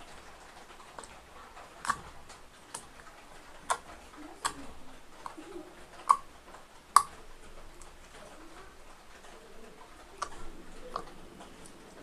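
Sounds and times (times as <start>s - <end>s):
wet slime squishing: 0.0s - 12.0s.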